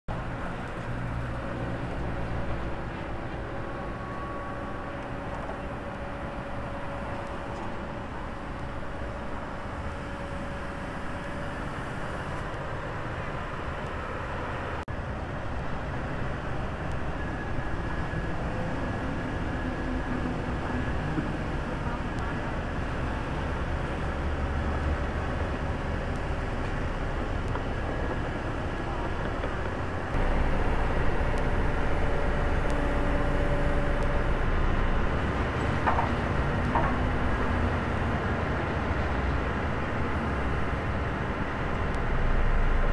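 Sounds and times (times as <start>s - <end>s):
excavator diesel engine running: 0.1s - 42.9s.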